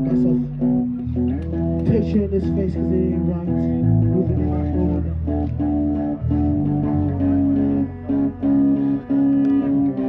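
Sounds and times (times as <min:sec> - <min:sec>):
guitar playing held notes: 0:00.0 - 0:10.0
low bass guitar: 0:00.0 - 0:10.0.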